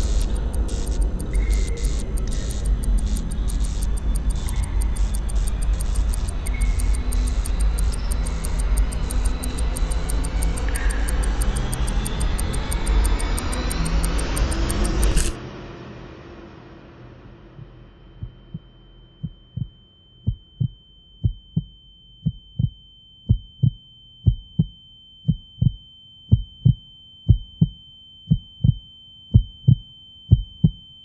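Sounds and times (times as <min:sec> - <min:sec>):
heartbeat: 0:00.0 - 0:15.2, 0:17.5 - 0:30.8
high-pitched ringing tone: 0:00.0 - 0:15.4, 0:17.3 - 0:31.0.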